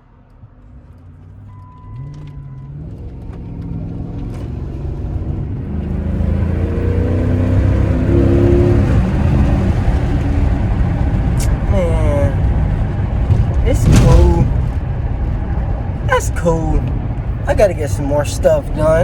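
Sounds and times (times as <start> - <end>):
car engine accelerating: 0.1 - 19.0.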